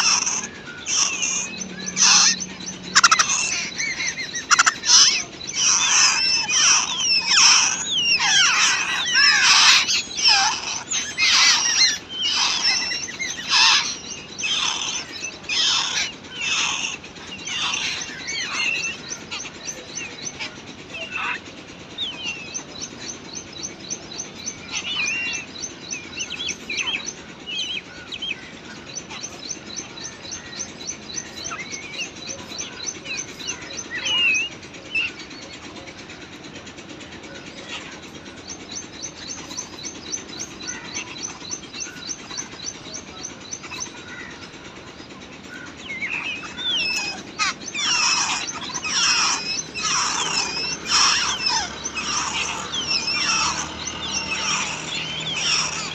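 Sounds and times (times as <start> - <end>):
loud harsh bird calls: 0.0 - 55.9.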